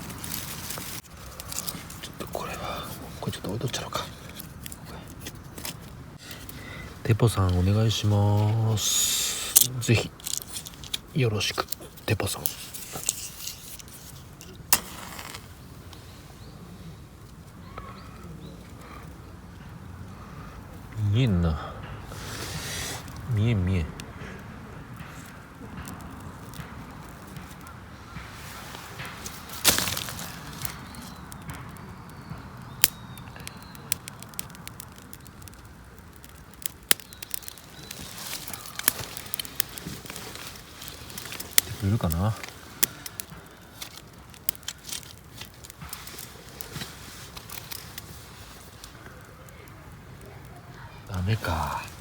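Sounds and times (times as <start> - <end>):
handling and rustling noises: 0.0 - 16.4, 25.0 - 31.7, 32.8 - 52.0
kindling fire snapping and popping: 0.0 - 52.0.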